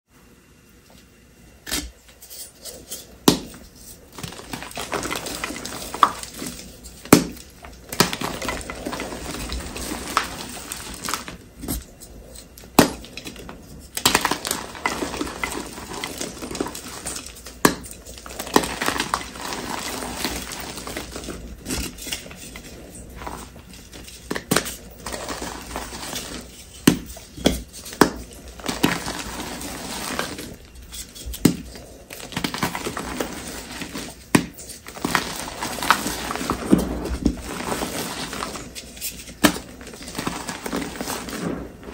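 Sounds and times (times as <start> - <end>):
chalk crunching and crackling: 2.2 - 41.9.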